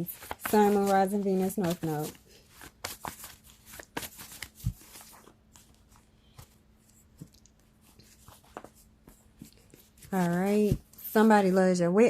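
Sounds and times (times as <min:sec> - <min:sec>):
cards being shuffled: 0:00.0 - 0:11.3.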